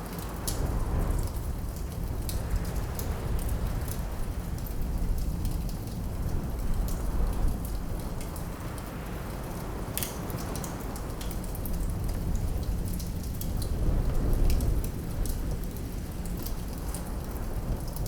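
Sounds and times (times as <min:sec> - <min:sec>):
low rumble of wind: 0:00.0 - 0:18.0.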